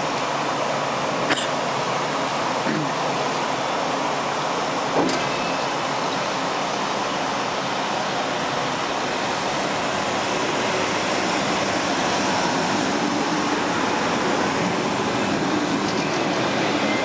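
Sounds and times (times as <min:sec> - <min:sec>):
train cars rushing past: 0:00.0 - 0:17.0.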